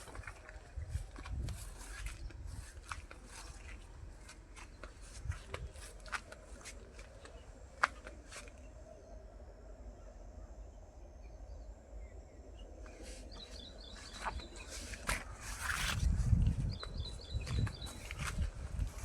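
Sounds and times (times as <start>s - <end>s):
low outdoor background: 0.0s - 19.0s.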